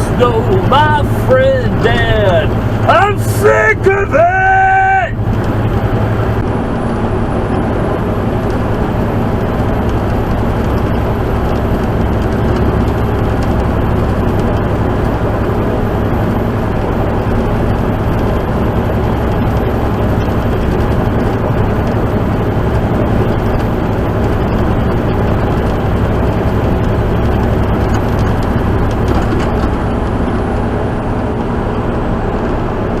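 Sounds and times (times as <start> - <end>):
road noise inside vehicle: 0.0 - 33.0
vehicle engine drone: 0.0 - 33.0.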